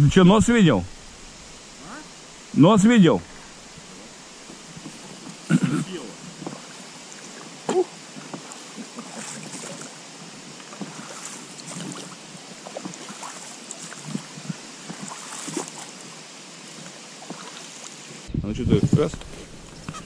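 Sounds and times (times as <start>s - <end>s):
hiss of water and air: 0.0s - 18.3s.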